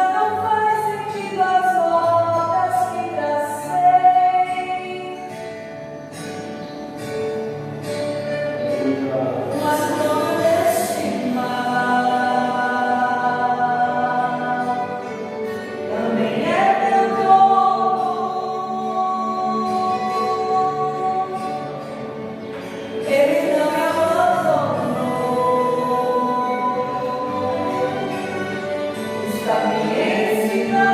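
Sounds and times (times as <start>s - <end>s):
choir singing a gospel hymn: 0.0s - 5.5s, 8.6s - 30.9s.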